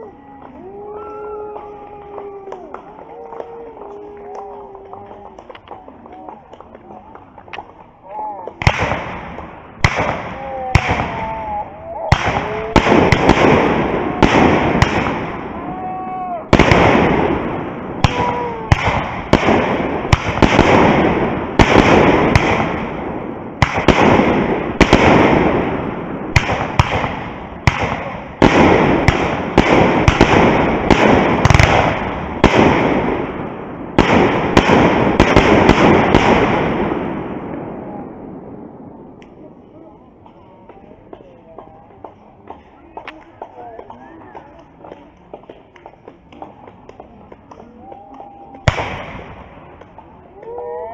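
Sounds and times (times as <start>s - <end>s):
fireworks banging and crackling: 0.3s - 50.9s.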